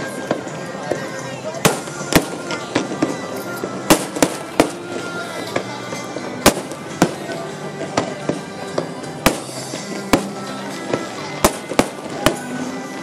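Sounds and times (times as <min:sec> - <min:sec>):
murmur of voices: 0:00.0 - 0:13.0
music with held notes: 0:00.0 - 0:13.0
fireworks bangs: 0:01.6 - 0:12.6.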